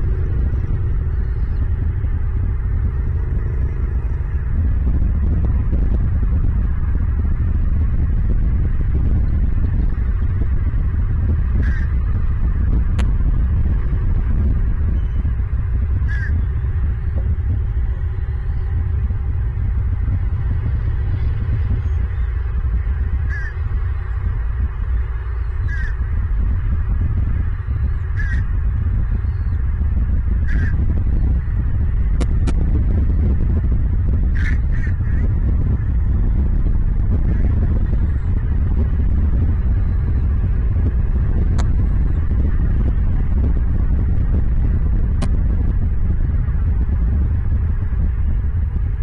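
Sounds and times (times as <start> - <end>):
steady low rumble: 0.0 - 49.0
wind buffeting microphone: 0.0 - 49.0.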